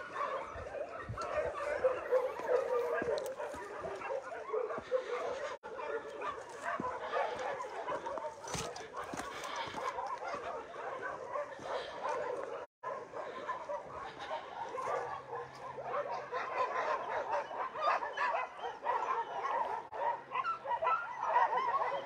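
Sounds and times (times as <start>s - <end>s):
many dogs barking: 0.0s - 22.0s.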